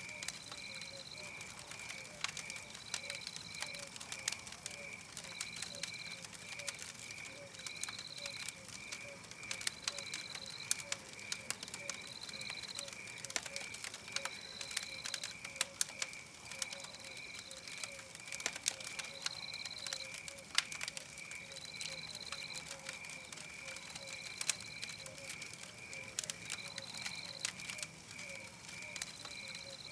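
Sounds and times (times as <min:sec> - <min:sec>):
campfire crackling and popping: 0:00.0 - 0:29.9
night insects chirping: 0:00.0 - 0:29.9.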